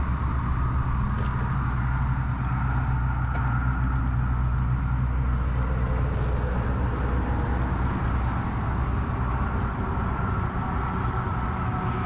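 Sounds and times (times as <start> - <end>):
bicycle wind and tyre noise: 0.0 - 12.0
deep rumble: 0.0 - 12.0.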